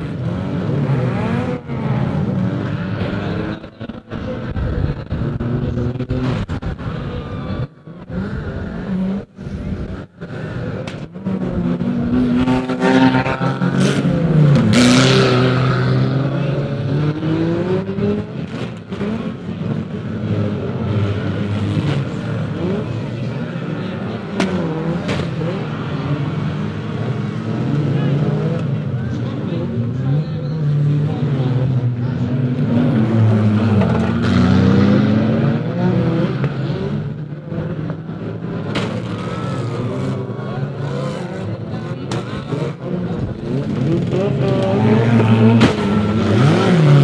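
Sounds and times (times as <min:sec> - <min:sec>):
racing car engines revving: 0:00.0 - 0:47.0.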